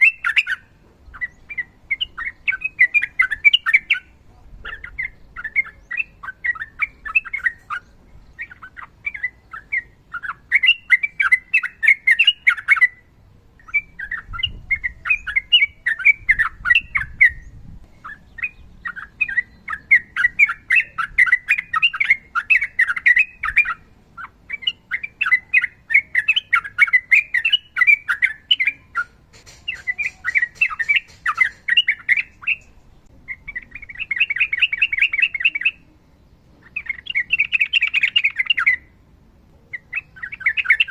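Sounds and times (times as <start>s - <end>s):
bulbul singing chirpy phrases: 0.0s - 40.9s.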